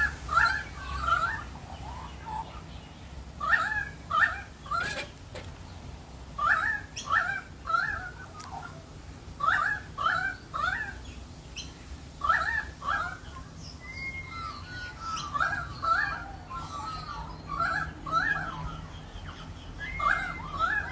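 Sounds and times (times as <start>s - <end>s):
magpies calling: 0.0s - 20.9s.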